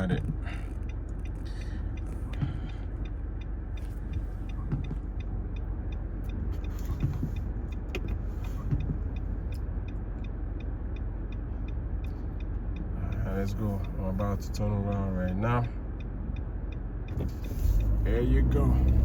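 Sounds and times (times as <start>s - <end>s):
car road and engine rumble: 0.0s - 19.0s
turn signal ticking: 0.0s - 19.0s.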